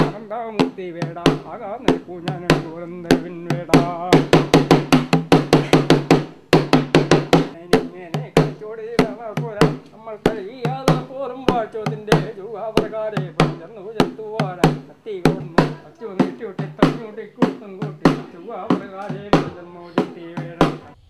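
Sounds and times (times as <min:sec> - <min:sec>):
man chant-like singing: 0:00.0 - 0:05.0, 0:07.5 - 0:21.0
small drum beaten with stick: 0:00.0 - 0:21.0.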